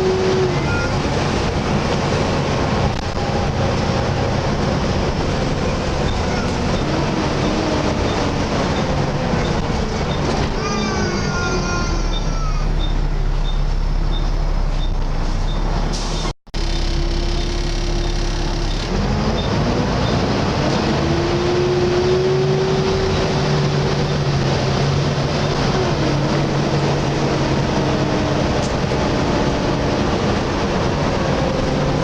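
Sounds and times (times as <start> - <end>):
bus engine drone with whine: 0.0 - 32.0.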